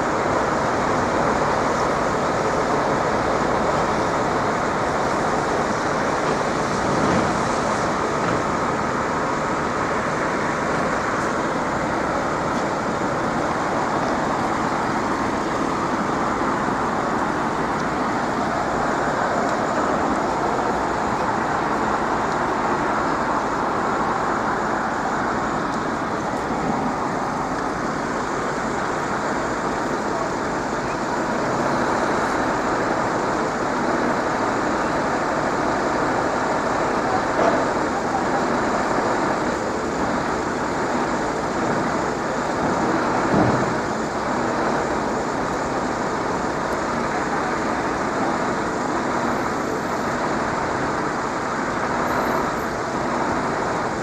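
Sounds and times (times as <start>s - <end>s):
road traffic rushing: 0.0s - 54.0s.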